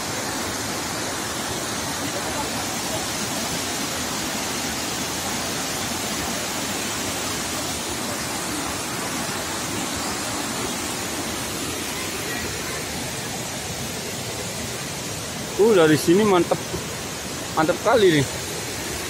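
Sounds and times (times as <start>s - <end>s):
waterfall and stream rushing: 0.0s - 19.0s.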